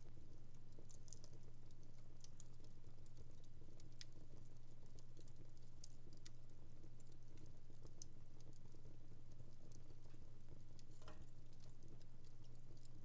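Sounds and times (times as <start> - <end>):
wood fire crackling: 0.1 - 13.0.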